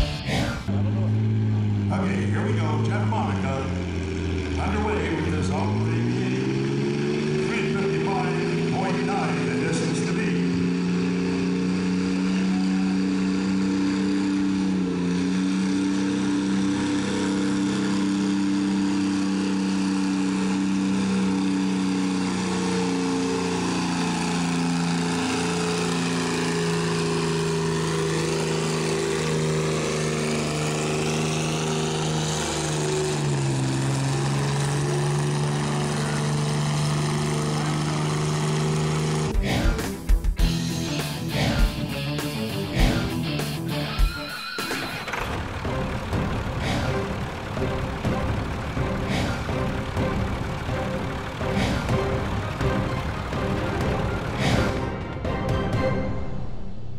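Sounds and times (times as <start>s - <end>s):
tractor engine at high revs: 0.0s - 56.4s.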